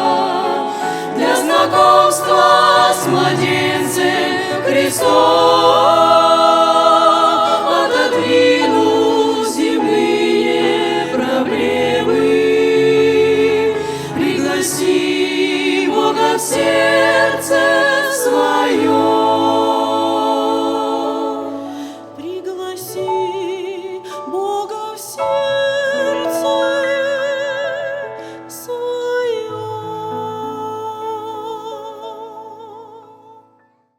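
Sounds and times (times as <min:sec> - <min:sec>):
choir singing a hymn: 0:00.0 - 0:33.1.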